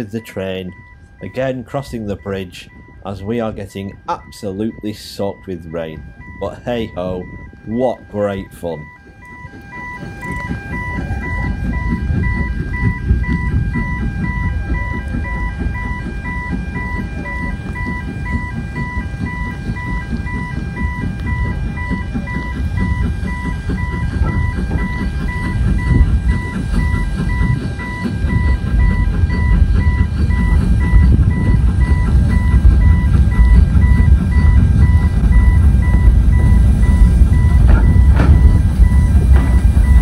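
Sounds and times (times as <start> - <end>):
crossing alarm two-pitch beeps: 0.0 - 40.0
heavy low rumble: 0.0 - 40.0.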